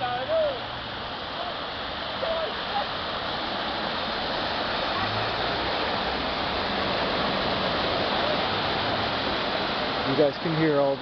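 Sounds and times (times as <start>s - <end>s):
floodwater rushing into storm drain: 0.0s - 11.0s.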